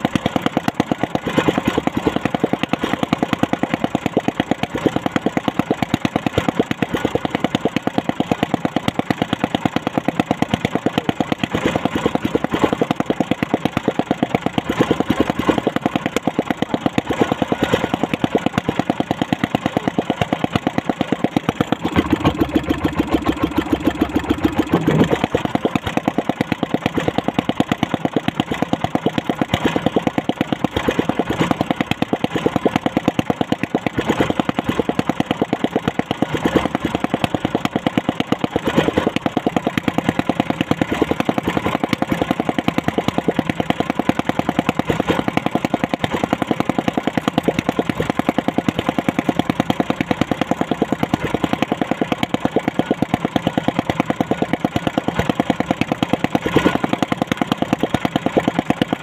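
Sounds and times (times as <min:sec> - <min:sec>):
small boat engine idling: 0:00.0 - 0:59.0.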